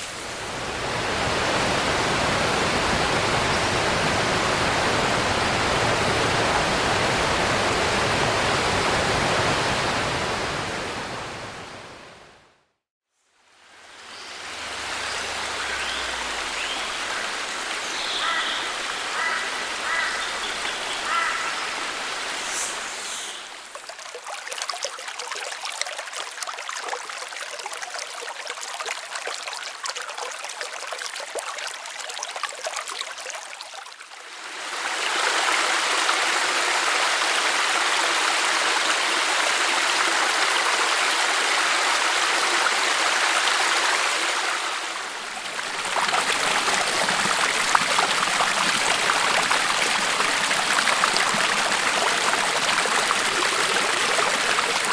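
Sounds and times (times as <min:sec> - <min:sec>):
creek water rushing: 0:00.0 - 0:12.3, 0:13.6 - 0:54.9.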